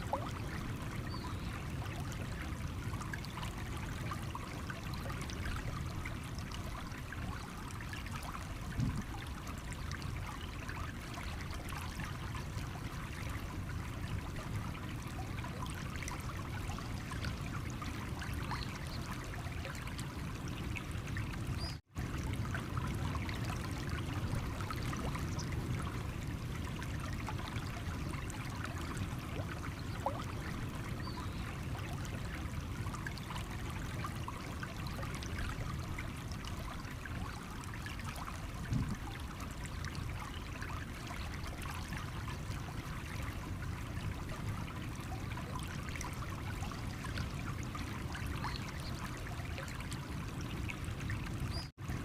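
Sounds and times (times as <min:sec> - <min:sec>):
stream trickling over stones: 0:00.0 - 0:52.0.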